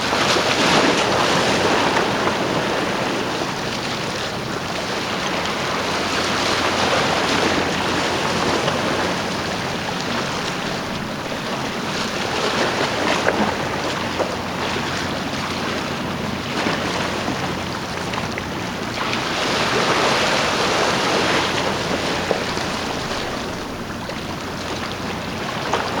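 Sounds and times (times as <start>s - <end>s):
seawater rushing: 0.0s - 26.0s
wind: 0.0s - 26.0s.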